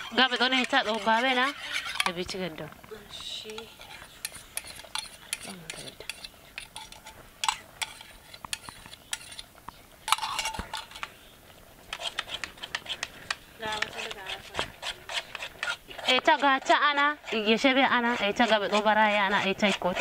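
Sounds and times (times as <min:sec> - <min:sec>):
metal spoon scraping metal pot: 0:00.0 - 0:11.2, 0:11.9 - 0:20.0.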